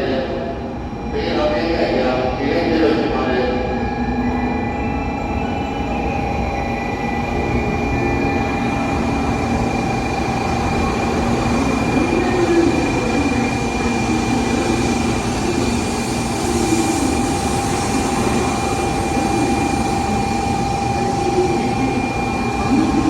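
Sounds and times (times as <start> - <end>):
electric train rumble and hiss: 0.0 - 23.0
high whining tones: 0.0 - 23.0.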